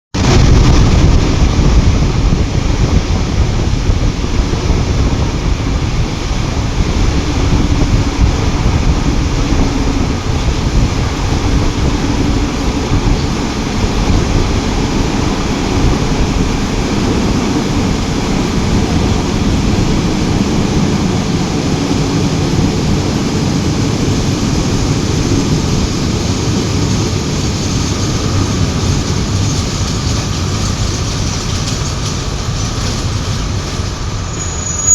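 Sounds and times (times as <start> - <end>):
wind buffeting microphone: 0.1 - 34.4
train rumbling: 0.1 - 34.9.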